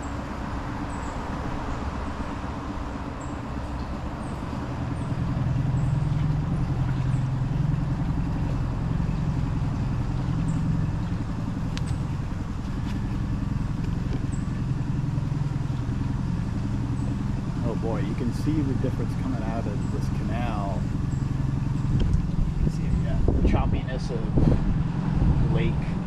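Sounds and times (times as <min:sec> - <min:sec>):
outboard motor humming: 0:00.0 - 0:26.0.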